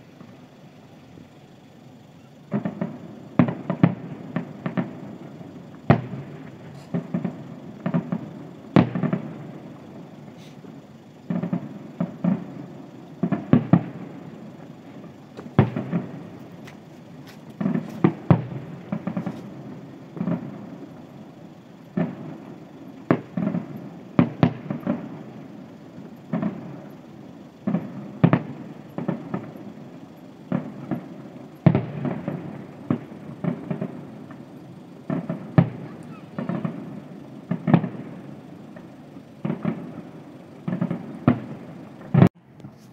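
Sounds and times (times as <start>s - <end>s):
distant fireworks bangs: 1.4s - 42.9s.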